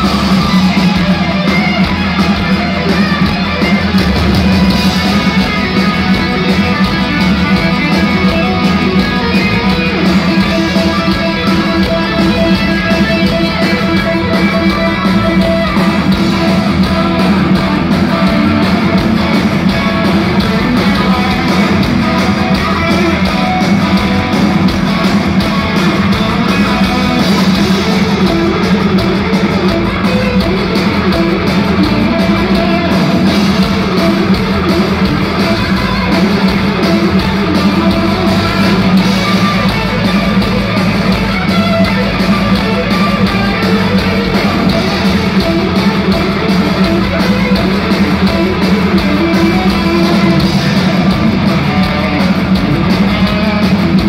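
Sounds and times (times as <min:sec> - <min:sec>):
electric guitar lead: 0:00.0 - 0:54.0
live rock band playing: 0:00.0 - 0:54.0.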